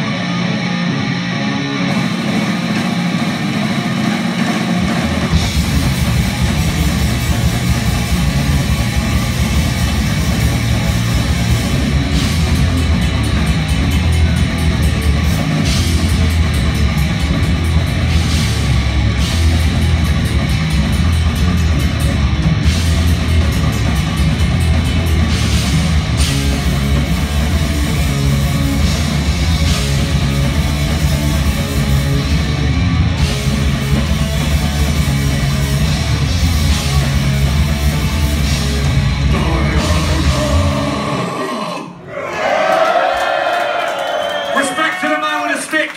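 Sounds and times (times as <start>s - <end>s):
distorted electric guitar: 0.0s - 42.0s
bass guitar: 0.0s - 43.1s
drums: 0.0s - 45.9s.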